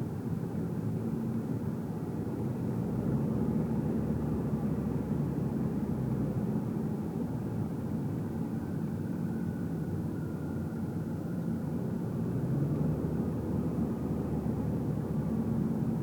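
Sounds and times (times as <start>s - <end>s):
car tyres and engine rumble: 0.0s - 16.0s.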